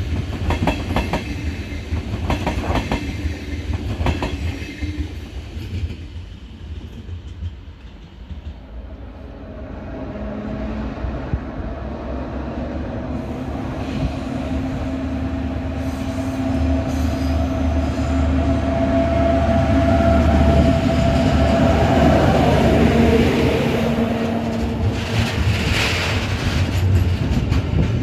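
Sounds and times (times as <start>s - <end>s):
diesel locomotive engine drone: 0.0s - 28.0s
freight wagons rumbling on rails: 0.0s - 28.0s.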